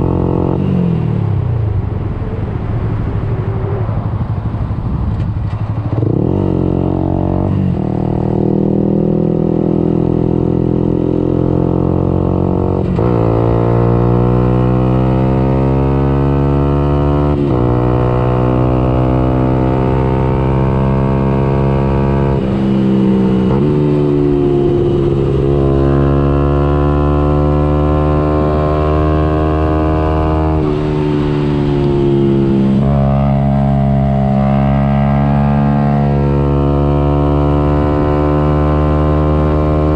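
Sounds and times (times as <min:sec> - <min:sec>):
motorcycle engine at full throttle: 0:00.0 - 0:39.9.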